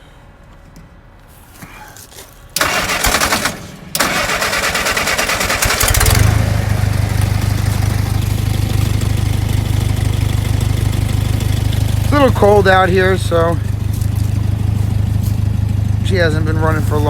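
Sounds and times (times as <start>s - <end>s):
engine idling: 2.6s - 17.0s
starter motor cranking: 2.6s - 17.0s.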